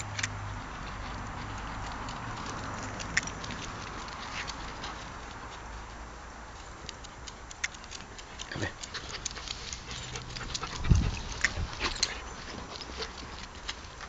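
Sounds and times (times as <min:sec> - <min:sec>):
claws clicking on concrete: 0:00.0 - 0:14.0.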